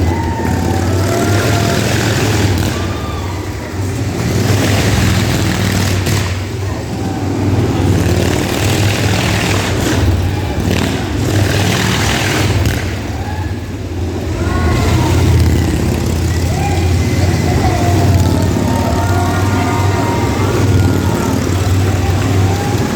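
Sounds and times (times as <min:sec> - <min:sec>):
motorcycle engines running: 0:00.0 - 0:22.9
noisy crowd: 0:00.0 - 0:22.9.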